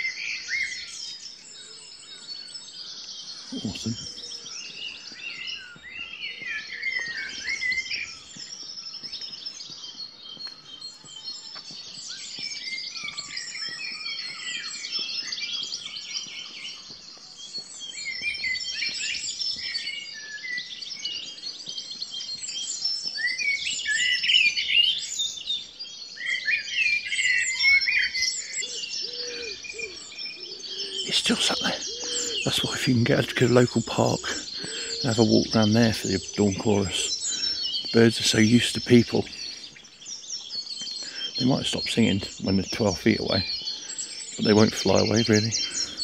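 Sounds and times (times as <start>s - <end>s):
many songbirds singing: 0.0s - 46.0s.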